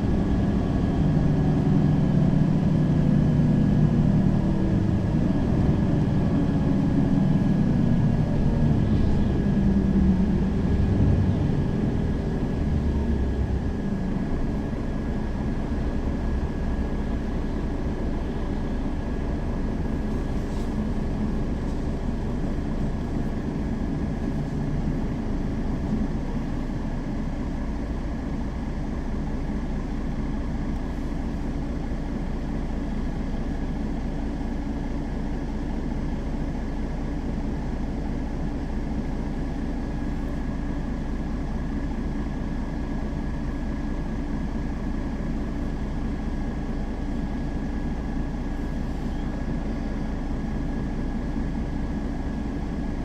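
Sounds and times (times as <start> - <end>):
bus engine drone: 0.0 - 53.0.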